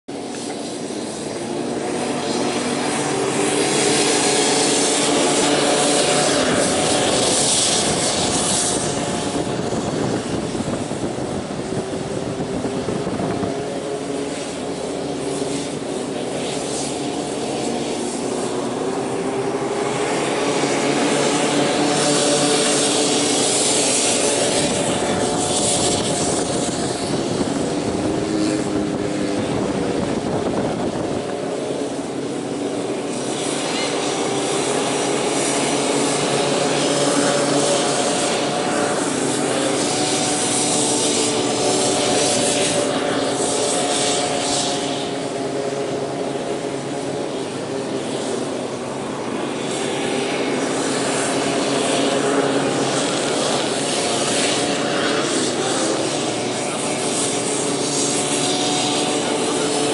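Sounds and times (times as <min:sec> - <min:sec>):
snowmobile engines racing: 0:00.0 - 0:59.9.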